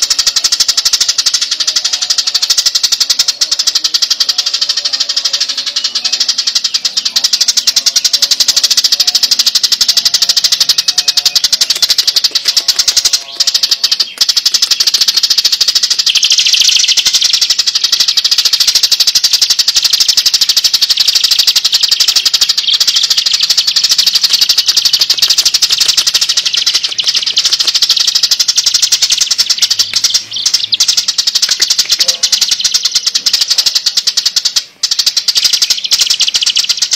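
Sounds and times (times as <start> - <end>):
sparrow chattering: 0.0 - 36.9.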